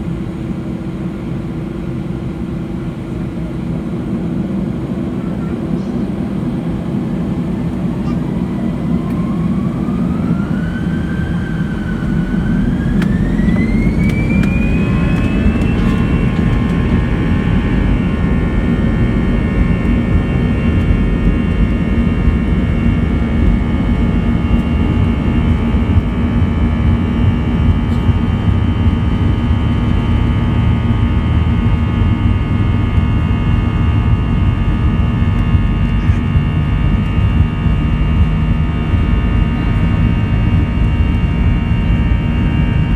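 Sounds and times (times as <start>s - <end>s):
jet engines spooling up: 0.0s - 42.9s.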